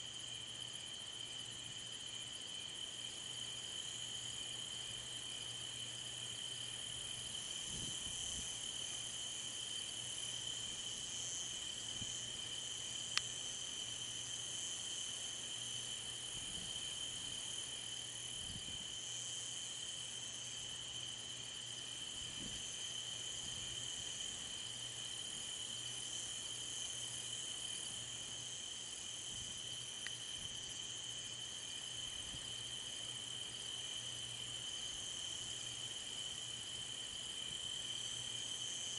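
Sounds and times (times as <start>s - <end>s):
crickets and insects chirping: 0.0s - 38.9s.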